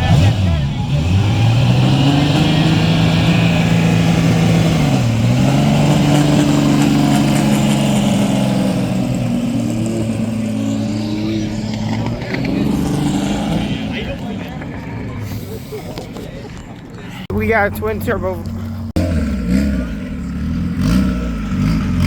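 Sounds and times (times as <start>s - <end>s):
car engine revving: 0.0s - 15.7s, 17.7s - 22.0s.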